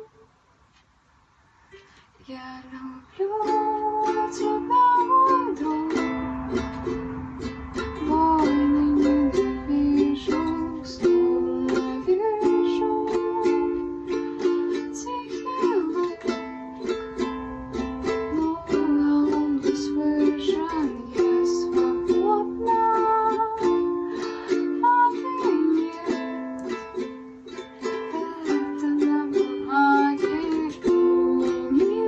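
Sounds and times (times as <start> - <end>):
ukulele strumming chords: 1.8 - 32.0.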